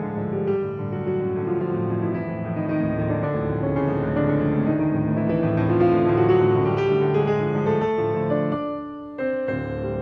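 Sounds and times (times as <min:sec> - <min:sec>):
classical piano piece: 0:00.0 - 0:10.0.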